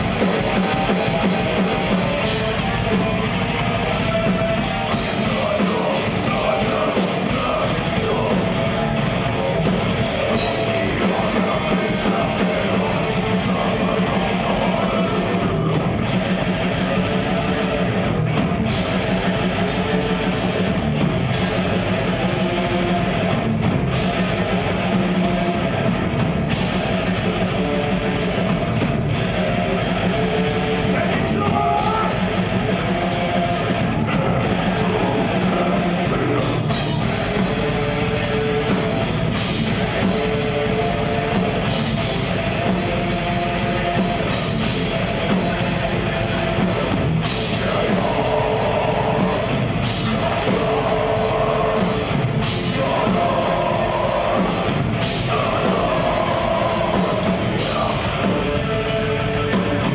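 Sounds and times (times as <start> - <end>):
bass guitar: 0.0 - 59.9
distorted electric guitars: 0.0 - 59.9
drum kit playing: 0.0 - 59.9.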